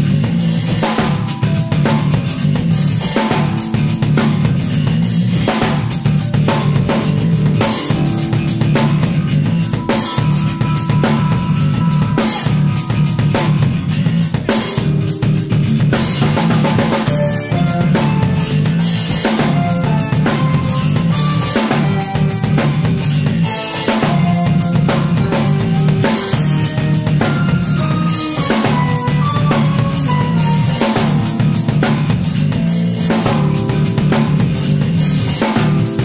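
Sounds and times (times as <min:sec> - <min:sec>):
drum kit playing: 0:00.0 - 0:36.0
electric bass line: 0:00.0 - 0:36.0.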